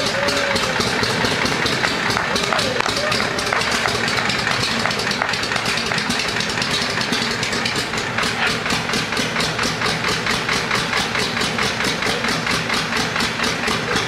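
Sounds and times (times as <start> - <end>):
radial aircraft engine running: 0.0 - 14.0.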